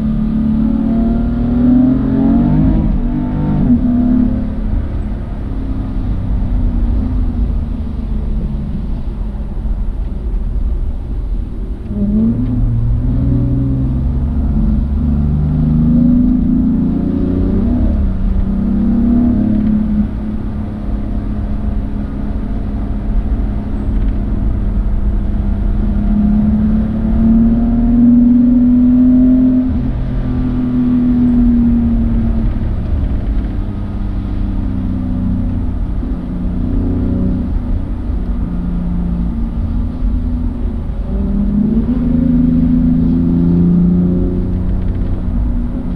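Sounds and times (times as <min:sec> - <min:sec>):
car engine accelerating: 0:00.0 - 0:45.9
steady low rumble: 0:00.0 - 0:45.9.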